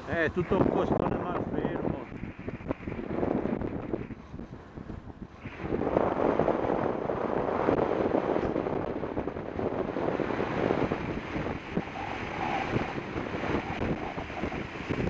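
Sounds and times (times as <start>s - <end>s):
tyre and road rumble: 0.0s - 15.0s
wind buffeting microphone: 0.0s - 15.0s.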